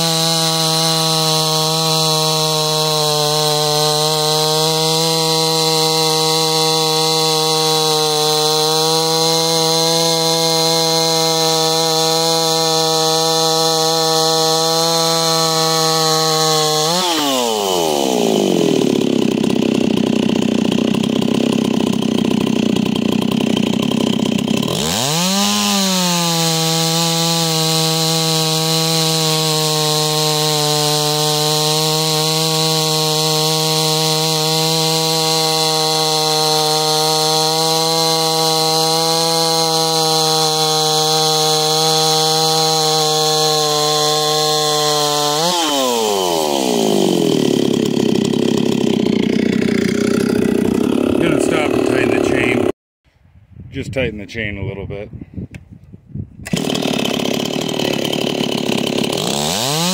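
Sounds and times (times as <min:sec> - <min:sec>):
chainsaw cutting at high revs: 0:00.0 - 0:52.8, 0:56.4 - 0:59.9.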